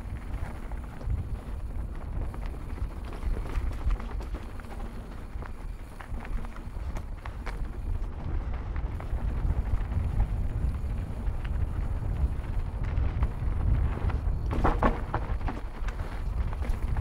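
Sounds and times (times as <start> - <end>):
bike rattling and clicking: 0.0 - 17.0
bike tyres on dirt trail: 0.0 - 17.0
wind rumble on microphone: 0.0 - 17.0.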